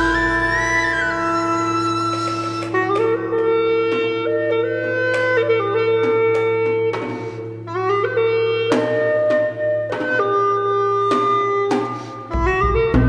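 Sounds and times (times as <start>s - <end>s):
plucked notes: 0.0s - 13.0s
wind instrument melody: 0.0s - 13.0s.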